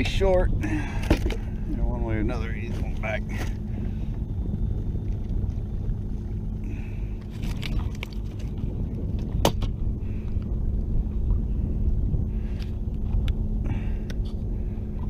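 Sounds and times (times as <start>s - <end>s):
low rumble with faint hum: 0.0s - 15.0s.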